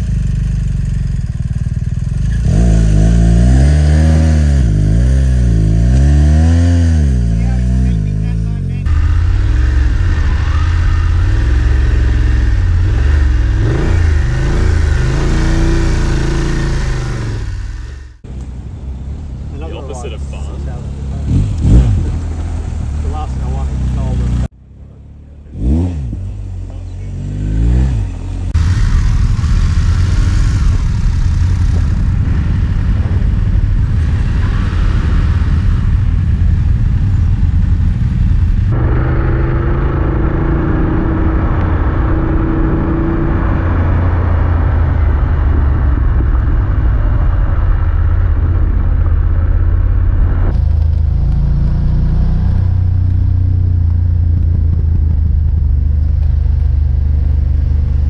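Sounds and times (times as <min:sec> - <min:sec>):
wind rumble: 0:00.0 - 0:24.6, 0:25.4 - 0:58.0
motorcycle engine revving: 0:00.0 - 0:58.0.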